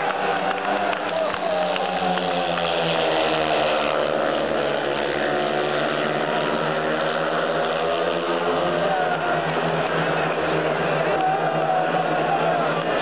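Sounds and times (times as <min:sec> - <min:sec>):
motorcycles racing drone: 0:00.0 - 0:13.0.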